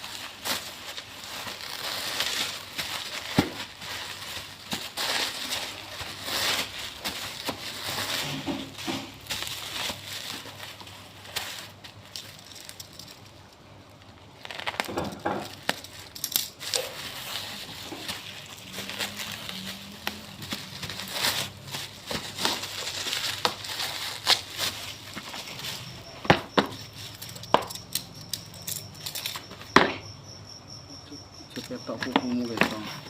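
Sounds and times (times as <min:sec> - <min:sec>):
packaging crinkling and rustling: 0:00.0 - 0:29.8, 0:31.6 - 0:33.0.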